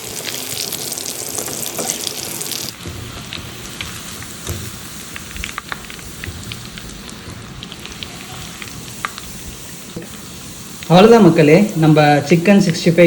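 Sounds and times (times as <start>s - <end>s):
chicken deep-frying in oil: 0.0s - 13.0s
loud hiss: 1.8s - 13.0s.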